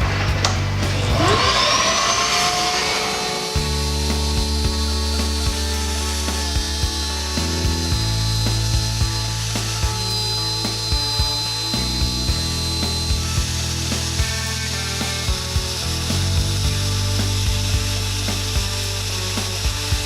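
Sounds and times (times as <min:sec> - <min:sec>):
background music with bass and beat: 0:00.0 - 0:02.6, 0:03.4 - 0:20.0
router cutting wood: 0:00.0 - 0:20.0.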